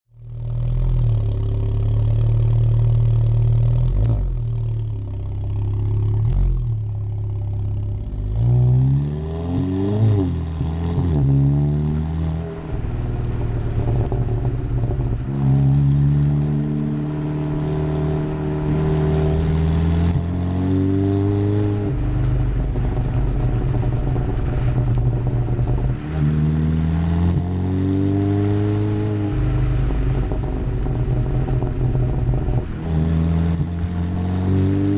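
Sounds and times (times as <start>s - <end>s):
car engine accelerating: 0.1s - 34.9s.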